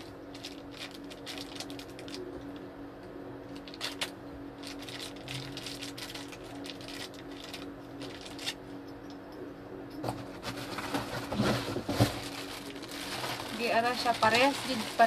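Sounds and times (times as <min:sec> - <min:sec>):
plastic packaging crinkling: 0:00.0 - 0:02.6, 0:03.5 - 0:08.6, 0:10.0 - 0:15.0
low steady hum: 0:00.0 - 0:15.0.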